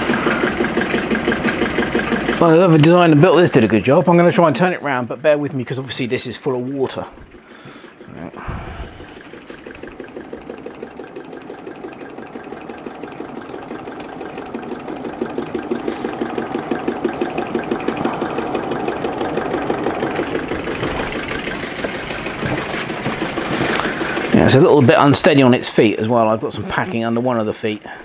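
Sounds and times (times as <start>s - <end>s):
hot-air engine clattering: 0.0s - 28.0s.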